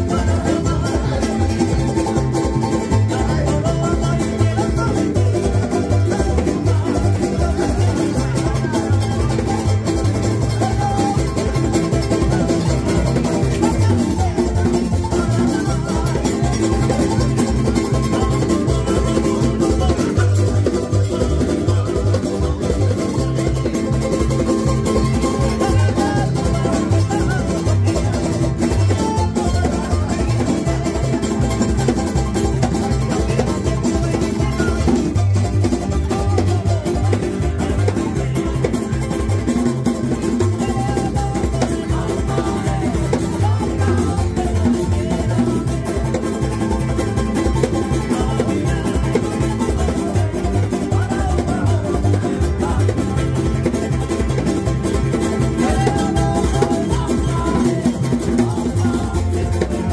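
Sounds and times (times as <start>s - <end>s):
hand drum beating: 0.0s - 59.9s
string band strumming: 0.0s - 59.9s.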